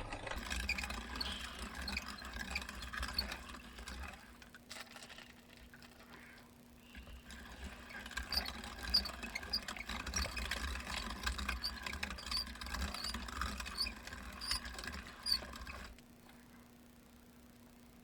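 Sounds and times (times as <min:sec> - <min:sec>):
meat grinder grinding: 0:00.0 - 0:06.2, 0:06.8 - 0:16.0.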